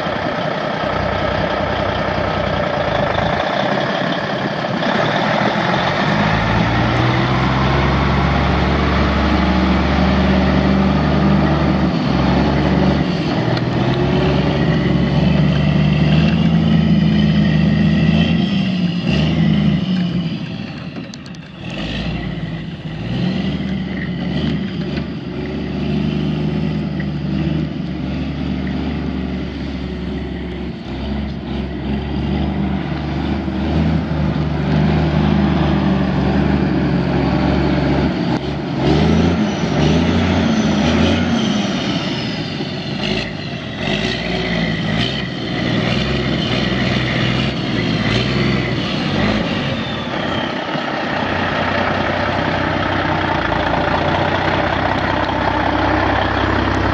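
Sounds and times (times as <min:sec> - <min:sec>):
diesel truck engine revving: 0:00.0 - 0:56.9.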